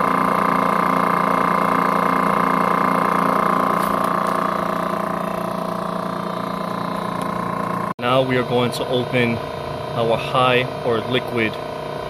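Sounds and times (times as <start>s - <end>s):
motor and compressor hum: 0.0s - 12.0s.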